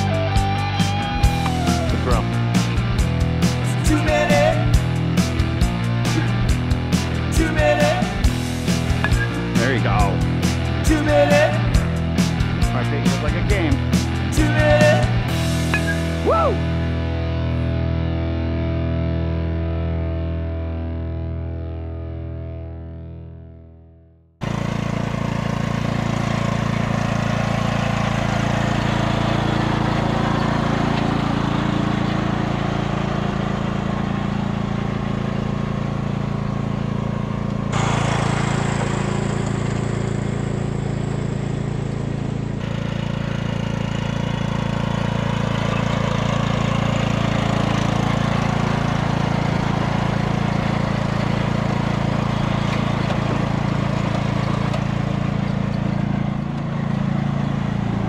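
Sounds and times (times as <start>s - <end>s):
riding lawn mower engine running: 0.0s - 19.0s, 24.4s - 58.0s.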